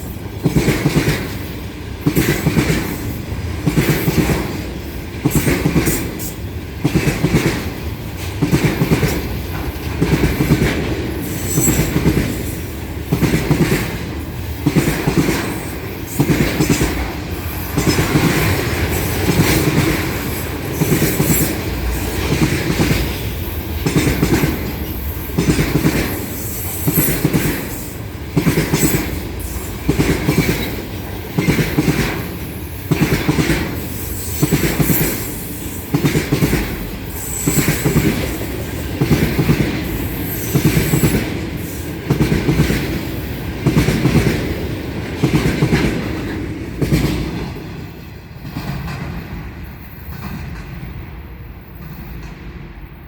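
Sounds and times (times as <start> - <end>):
train wheels clattering over rail joints: 0.0 - 51.0.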